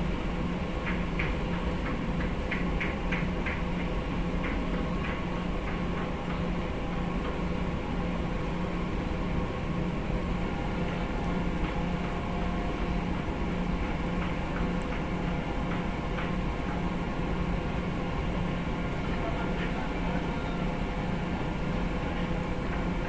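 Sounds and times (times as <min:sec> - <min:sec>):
ship engine rumble: 0:00.0 - 0:23.0.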